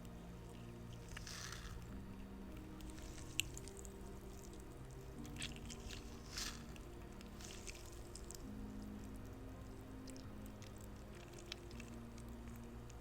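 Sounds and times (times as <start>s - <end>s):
rubber toy squishing: 0.0s - 13.0s
soft background music: 0.0s - 13.0s.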